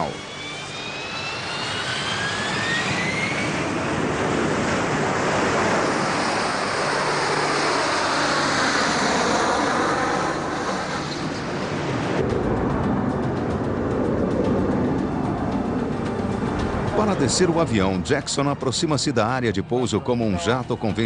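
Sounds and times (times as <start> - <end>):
jet engine roar: 0.0 - 21.0
rising jet whine: 0.0 - 21.0.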